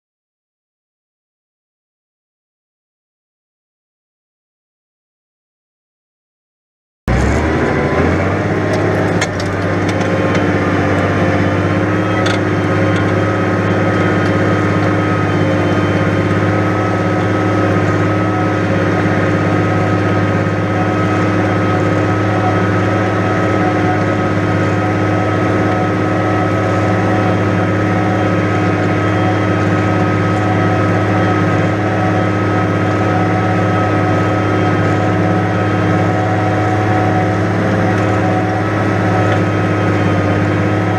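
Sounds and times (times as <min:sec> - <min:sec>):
tractor diesel engine running: 0:07.1 - 0:40.9.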